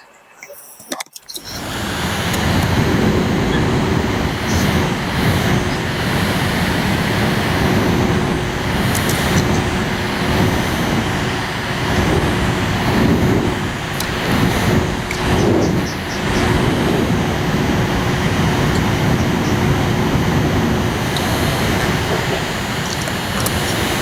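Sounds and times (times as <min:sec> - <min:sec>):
electric cooling fan running: 0:01.4 - 0:24.0.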